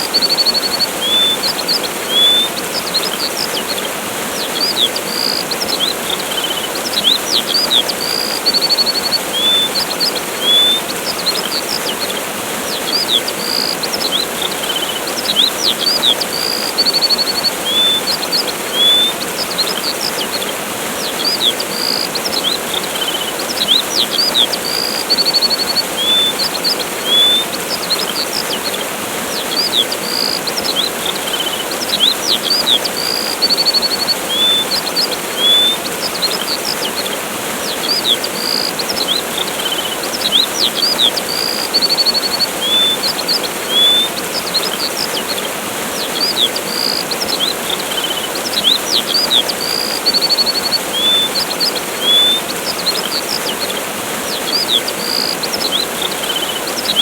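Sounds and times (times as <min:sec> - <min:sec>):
bird trill: 0:00.0 - 0:57.0
birds chirping: 0:00.0 - 0:57.0
waterfall rushing: 0:00.0 - 0:57.0.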